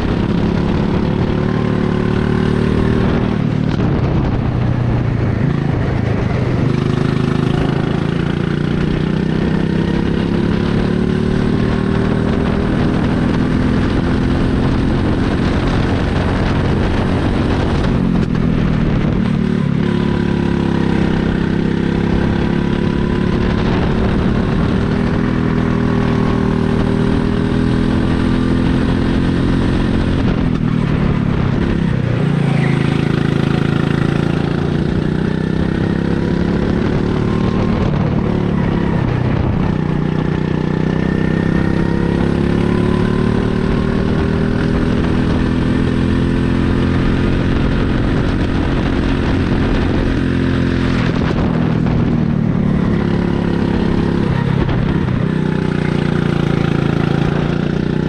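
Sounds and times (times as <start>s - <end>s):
go-kart engine racing: 0.0s - 58.0s.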